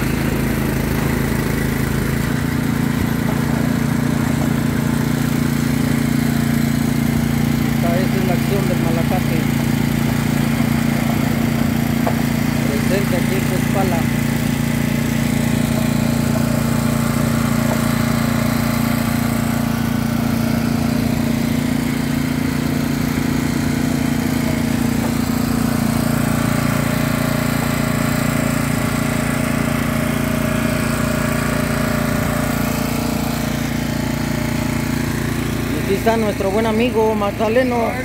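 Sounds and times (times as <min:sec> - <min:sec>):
small gasoline engine running: 0:00.0 - 0:38.0.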